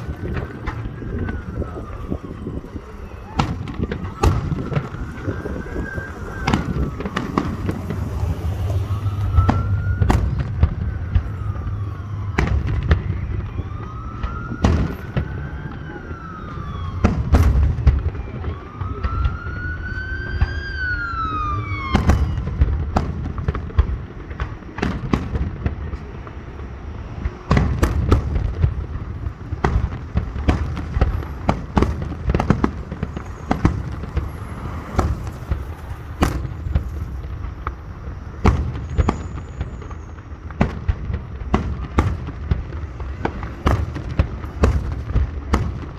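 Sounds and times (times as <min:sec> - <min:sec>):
fireworks banging: 0:00.0 - 0:45.9
wailing siren: 0:00.0 - 0:45.9.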